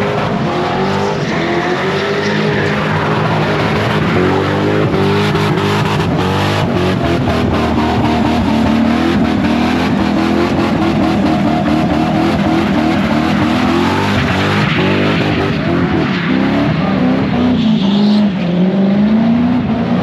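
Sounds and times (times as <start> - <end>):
tyres squealing on asphalt: 0.0 - 18.6
car engine revving: 0.0 - 20.0.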